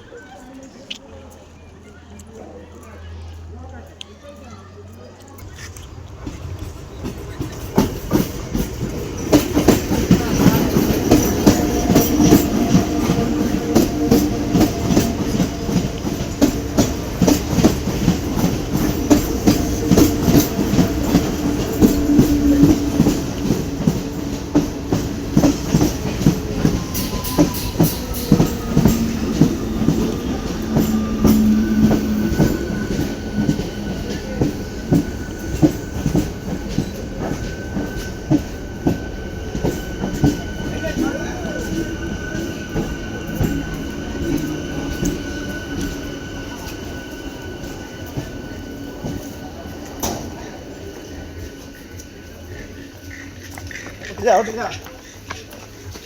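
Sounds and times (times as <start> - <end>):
train wheels clacking over rails: 5.4 - 56.0.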